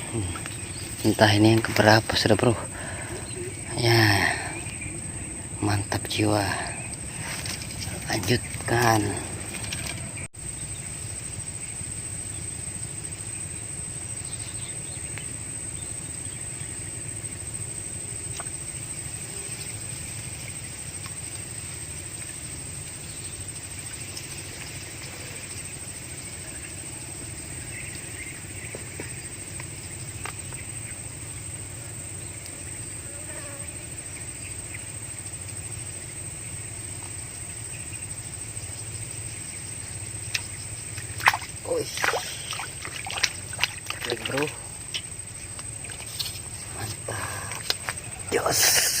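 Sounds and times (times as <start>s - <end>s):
high-pitched insect drone: 0.0s - 49.0s.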